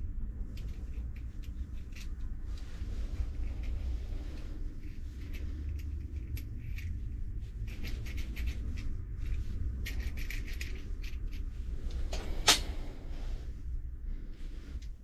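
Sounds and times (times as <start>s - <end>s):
low steady hum: 0.0s - 15.0s
metal fittings clicking and scraping: 0.5s - 12.7s.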